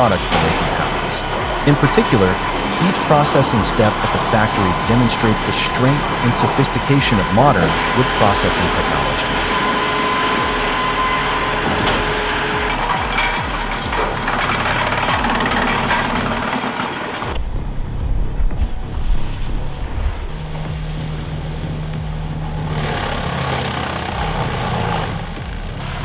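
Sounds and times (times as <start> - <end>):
heavy machinery running: 0.0 - 26.0
steady engine hum: 0.0 - 26.0.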